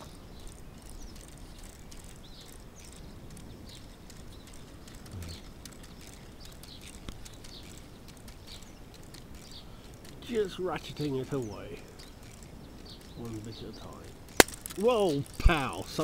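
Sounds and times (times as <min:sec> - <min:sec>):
faint birdsong: 0:00.0 - 0:16.0
plastic gears clicking: 0:00.0 - 0:16.0.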